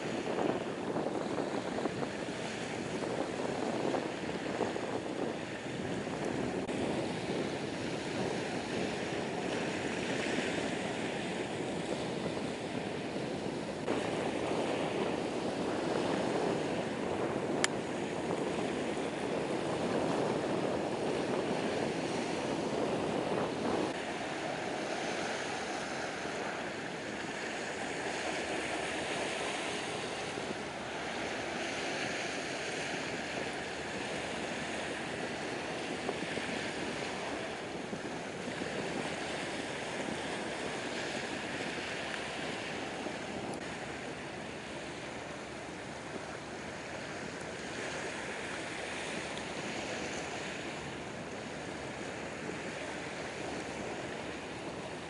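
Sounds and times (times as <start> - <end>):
waves washing onto shingle: 0.0 - 55.0.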